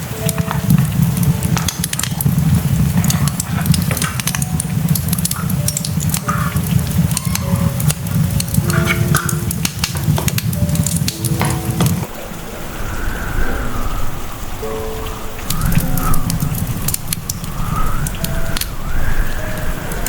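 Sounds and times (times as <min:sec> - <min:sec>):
food crackling and popping in pan: 0:00.0 - 0:12.2, 0:15.3 - 0:20.0
low rumble: 0:00.0 - 0:20.0.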